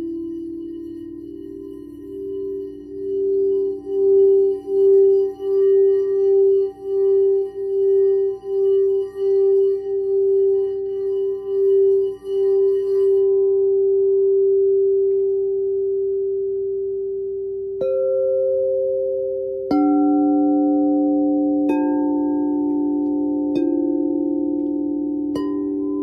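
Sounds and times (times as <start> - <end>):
mallet striking bowl high tone: 0.0 - 26.0
singing bowl ringing low tone: 0.0 - 26.0.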